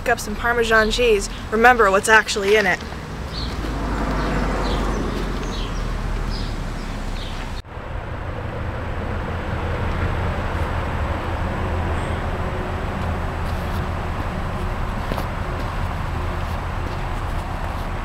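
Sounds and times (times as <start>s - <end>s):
wind rumble on microphone: 2.8s - 18.0s.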